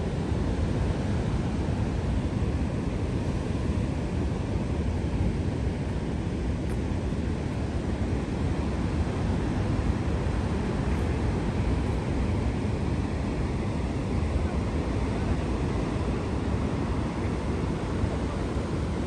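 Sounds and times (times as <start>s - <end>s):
continuous hiss: 0.0s - 19.0s.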